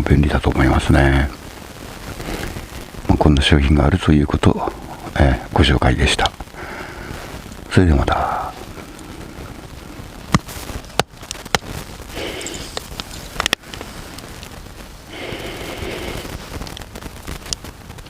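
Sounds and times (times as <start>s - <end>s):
campfire crackling and popping: 0.0s - 18.0s
soft hazy rustle: 0.0s - 18.0s
steady fire hiss: 0.0s - 18.0s.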